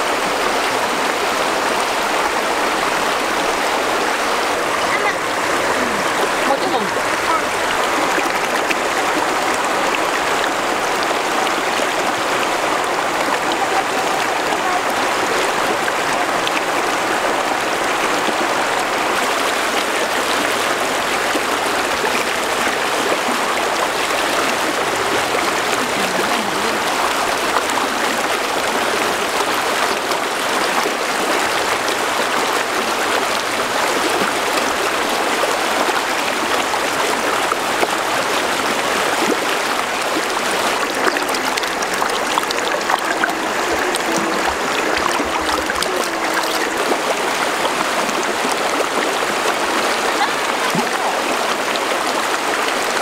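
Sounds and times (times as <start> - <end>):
river rushing over stones: 0.0 - 53.0.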